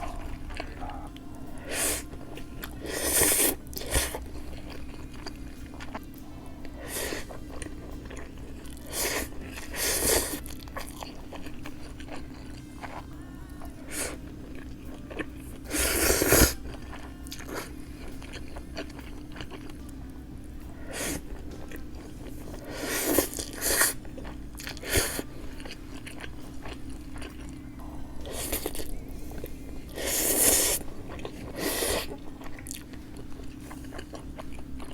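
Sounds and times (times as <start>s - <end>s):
biting and chewing food: 0.0s - 34.9s
faint steady hum: 0.0s - 34.9s.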